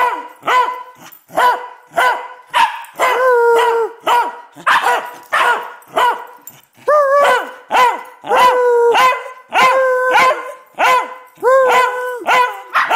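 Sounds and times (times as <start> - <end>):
dog howling barks: 0.0 - 12.9.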